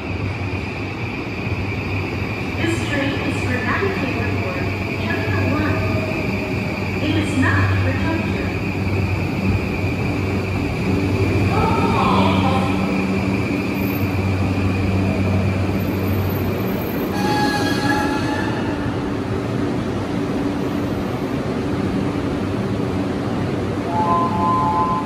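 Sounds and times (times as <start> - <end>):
electric train equipment humming: 0.0 - 25.0.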